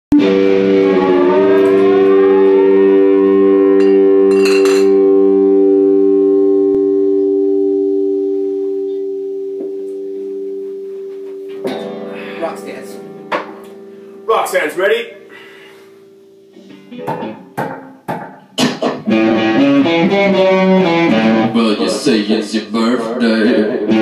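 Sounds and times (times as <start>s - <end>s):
electric guitars ringing chord: 0.1s - 17.6s, 18.8s - 24.0s
guitar strums: 0.1s - 22.2s, 23.4s - 24.0s.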